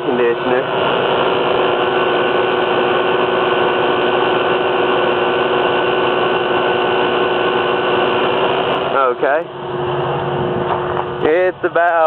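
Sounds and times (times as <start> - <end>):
air conditioner humming: 0.0 - 12.0
truck engine running: 0.0 - 12.0.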